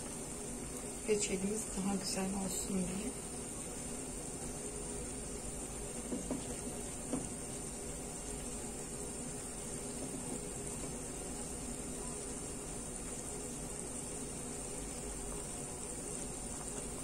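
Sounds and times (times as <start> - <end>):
jam boiling in a pot: 0.0 - 17.0.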